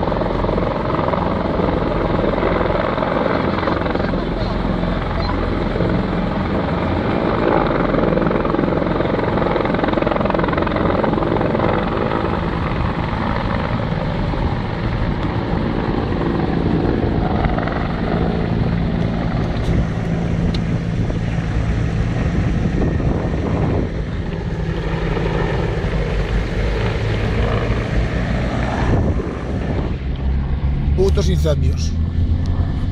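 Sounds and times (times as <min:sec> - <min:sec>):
helicopter rotor and engine: 0:00.0 - 0:32.9.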